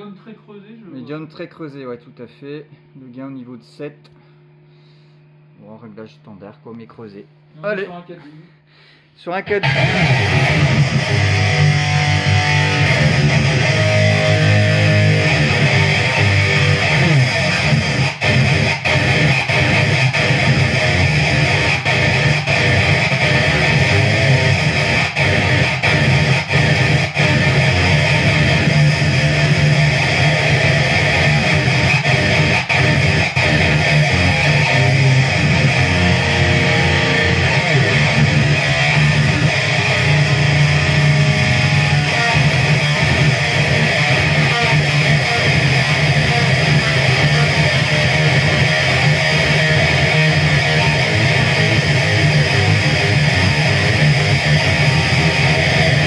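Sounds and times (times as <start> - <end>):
distorted electric guitar riffs: 9.5 - 56.0.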